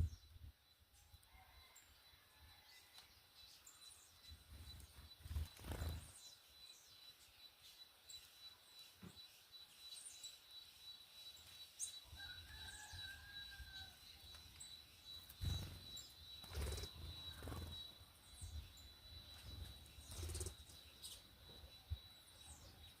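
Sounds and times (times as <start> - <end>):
faint high bird chirps: 0.0 - 23.0.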